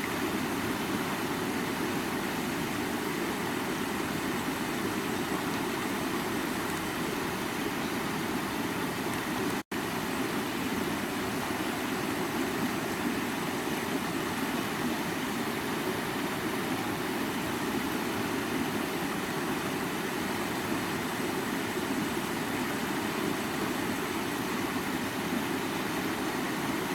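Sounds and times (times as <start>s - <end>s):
creek water running: 0.0s - 26.9s.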